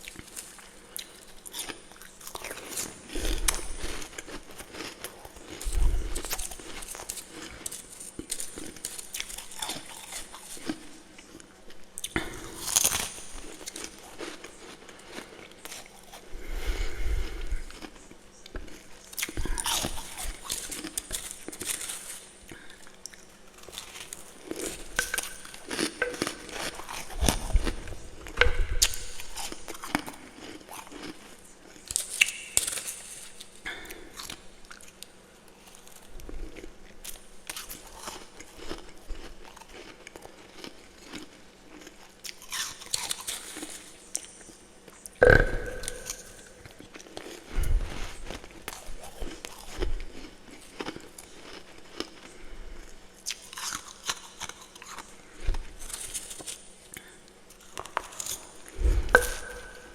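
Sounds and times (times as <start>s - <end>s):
chewing: 0.0s - 59.9s.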